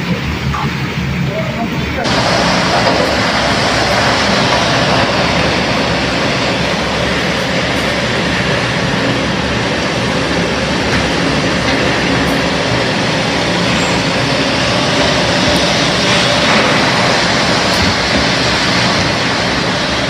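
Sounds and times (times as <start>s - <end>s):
hail and heavy rain pelting: 0.0s - 20.0s.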